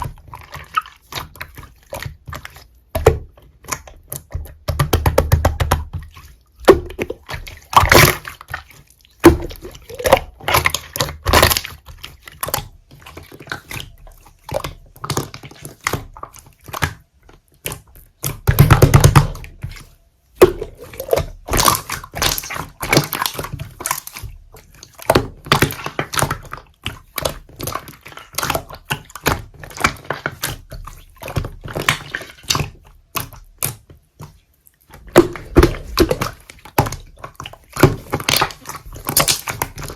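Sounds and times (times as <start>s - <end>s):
slime squelching by hand: 0.0s - 39.9s.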